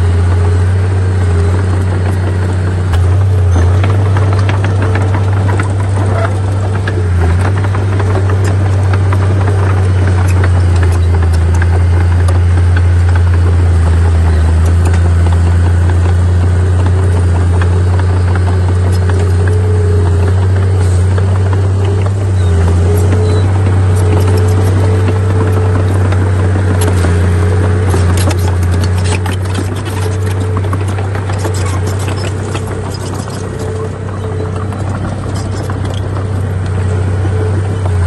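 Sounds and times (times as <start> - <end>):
diesel machinery engine drone: 0.0 - 38.0.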